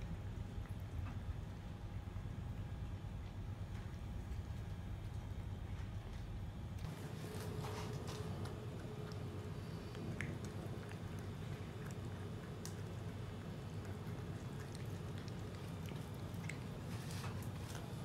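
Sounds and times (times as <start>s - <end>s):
kittens chewing wet food: 0.0s - 18.0s
steady low hum: 0.0s - 18.0s.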